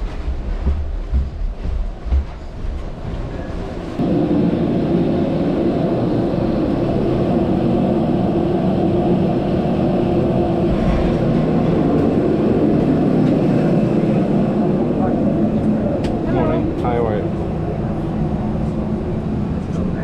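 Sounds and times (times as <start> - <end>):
airliner drone: 3.0 - 20.0.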